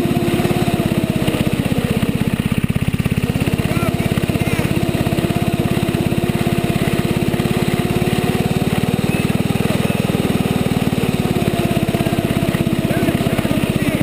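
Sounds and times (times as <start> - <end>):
snowmobile engine running: 0.0 - 14.0.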